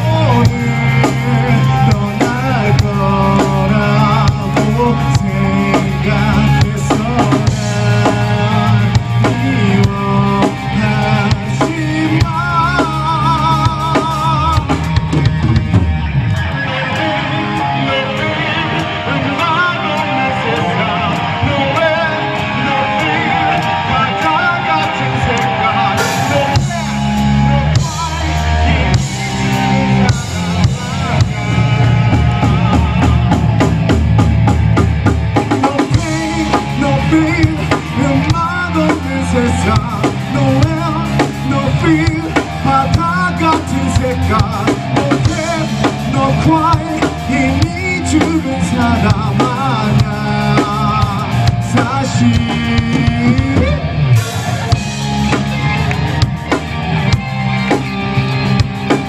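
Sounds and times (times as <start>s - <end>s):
drums: 0.0s - 59.0s
electric guitar: 0.0s - 59.0s
rock band playing: 0.0s - 59.0s.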